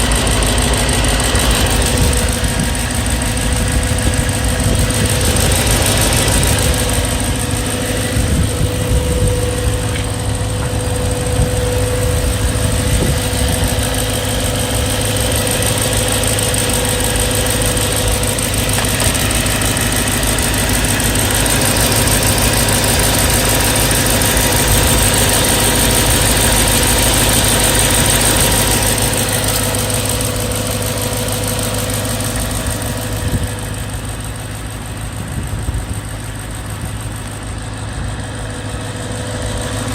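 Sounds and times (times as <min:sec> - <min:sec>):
car engine idling: 0:00.0 - 0:39.9
fast light engine ticking: 0:00.0 - 0:39.9.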